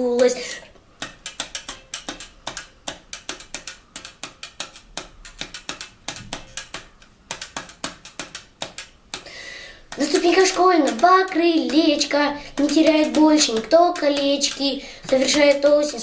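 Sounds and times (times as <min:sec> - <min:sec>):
rhythmic knocking on a desk: 0:01.0 - 0:16.0.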